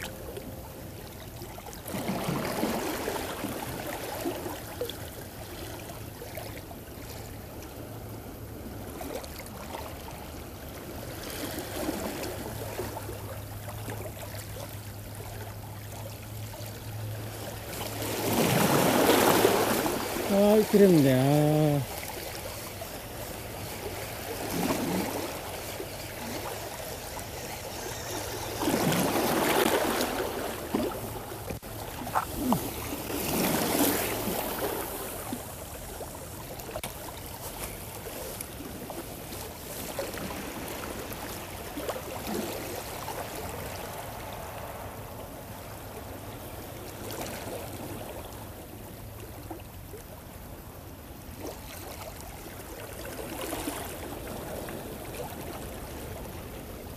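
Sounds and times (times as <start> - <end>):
waves lapping against stone wall: 0.0 - 56.9.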